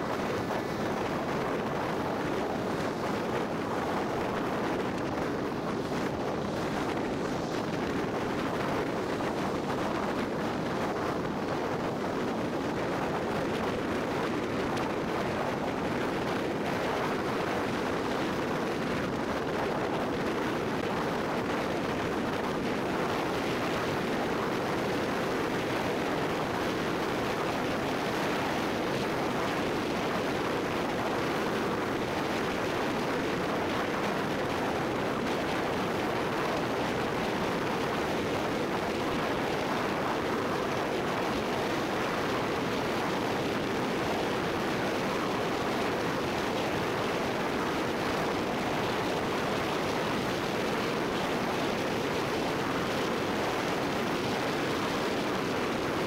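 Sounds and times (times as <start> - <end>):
car road and wind noise: 0.0 - 56.0.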